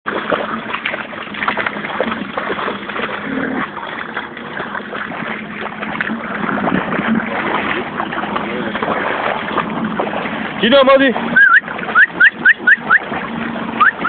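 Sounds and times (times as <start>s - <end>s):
dogs splashing through water: 0.0s - 14.0s.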